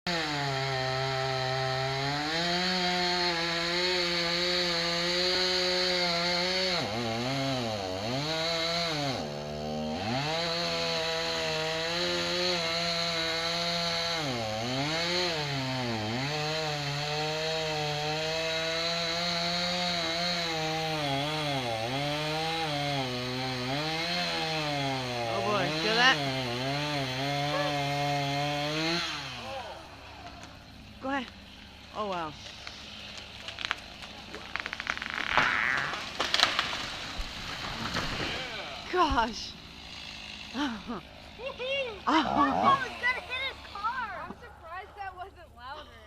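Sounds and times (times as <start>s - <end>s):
chainsaw cutting tree trunk: 0.1s - 44.9s.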